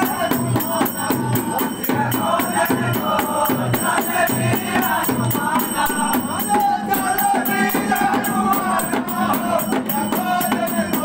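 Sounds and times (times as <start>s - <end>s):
hand drum beating: 0.0s - 11.0s
men singing folk song: 0.0s - 11.0s
metal percussion clashing: 0.0s - 11.0s.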